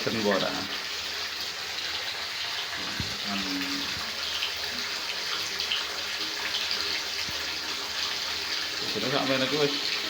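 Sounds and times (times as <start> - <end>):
tap water running into bathtub: 0.0 - 10.0.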